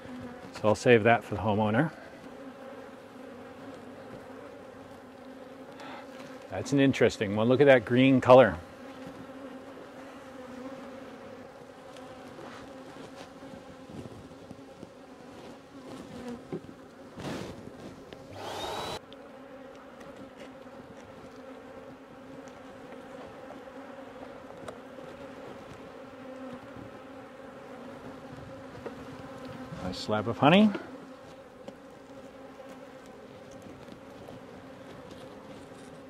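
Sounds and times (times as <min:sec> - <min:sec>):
honey bees buzzing: 0:00.0 - 0:36.0.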